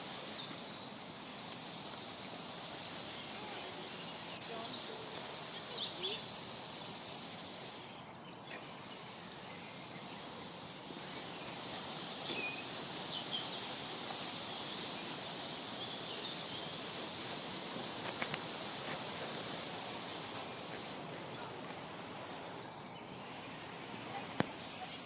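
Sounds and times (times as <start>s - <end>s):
falling water rushing: 0.0s - 7.8s, 10.4s - 25.0s.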